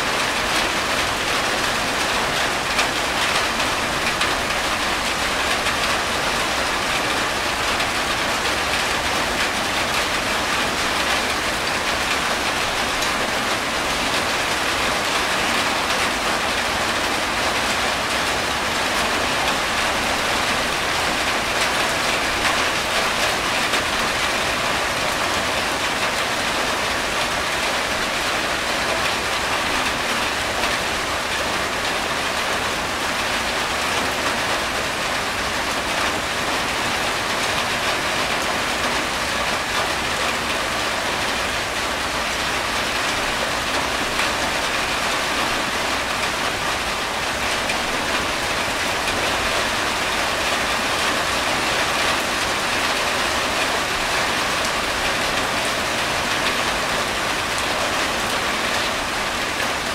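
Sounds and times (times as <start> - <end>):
rain on a tin roof: 0.0 - 59.9
water running off a roof: 0.0 - 59.9.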